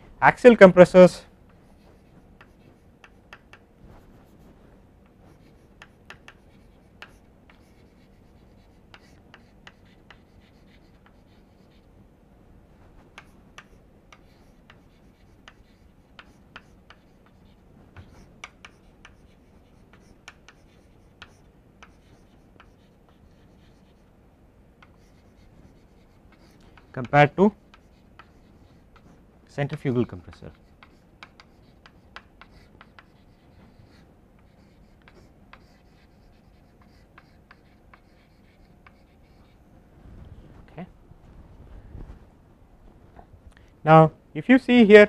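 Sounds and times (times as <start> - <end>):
chalk tapping and scratching: 1.4 - 11.9, 13.0 - 24.2, 24.8 - 39.6.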